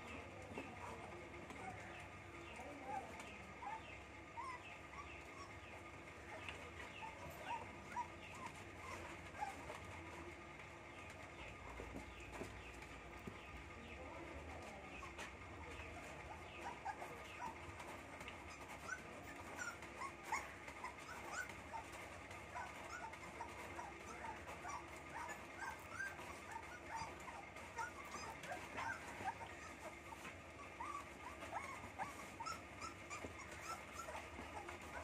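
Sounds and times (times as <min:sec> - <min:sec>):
puppies whimpering: 0:00.0 - 0:35.0.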